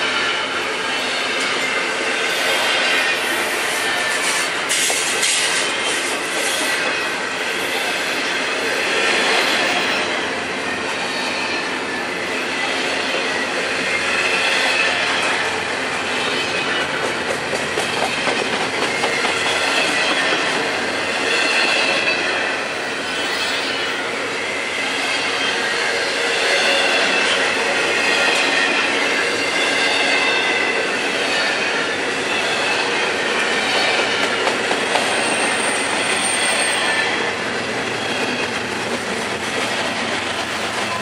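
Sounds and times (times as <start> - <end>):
steel wheels on rails: 0.0 - 41.0
high wheel squeal: 0.1 - 15.4, 18.1 - 41.0.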